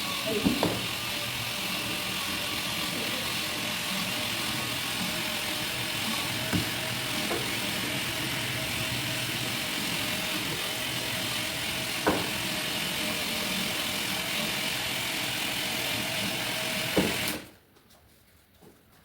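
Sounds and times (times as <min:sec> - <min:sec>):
small motor hum: 0:00.0 - 0:17.5.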